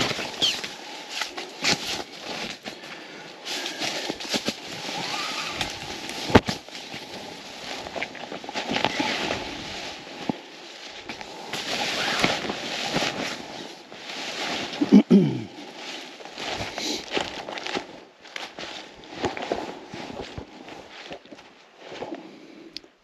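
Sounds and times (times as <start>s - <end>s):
rustling: 0.0s - 22.7s.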